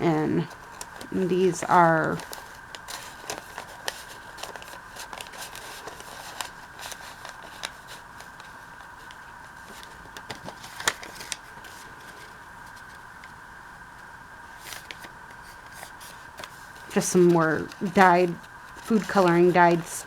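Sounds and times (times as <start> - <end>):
paper rustling: 0.0 - 13.4, 14.5 - 20.0
faint high-pitched hum: 0.0 - 20.0.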